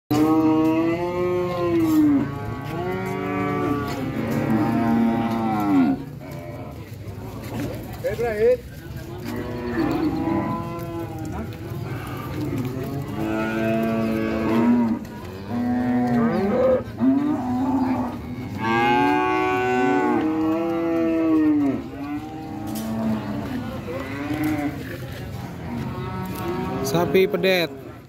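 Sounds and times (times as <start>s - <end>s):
cattle mooing: 0.1s - 6.8s, 9.2s - 24.9s, 25.6s - 27.9s.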